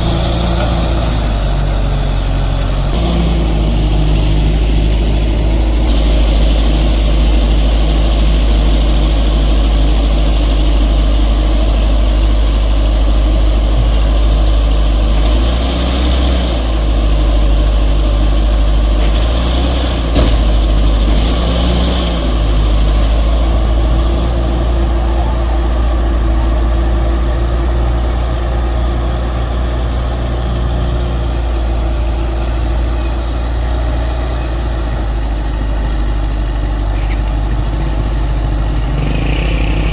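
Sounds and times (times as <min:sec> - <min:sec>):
heavy machine diesel engine: 0:00.0 - 0:39.9.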